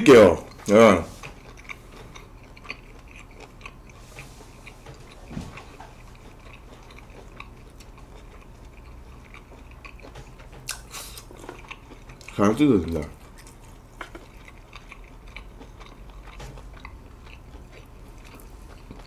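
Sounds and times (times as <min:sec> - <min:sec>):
person chewing food: 0:00.1 - 0:19.0.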